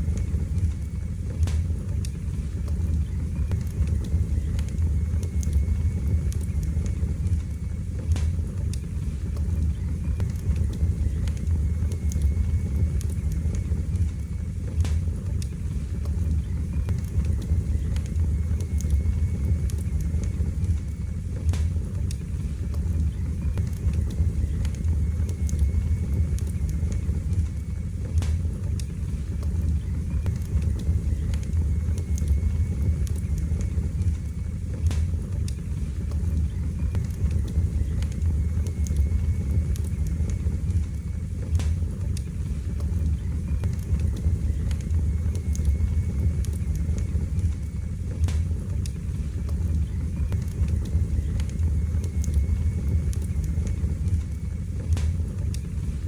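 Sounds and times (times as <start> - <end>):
fire crackling and popping: 0.0 - 56.0
low rumble: 0.0 - 56.0.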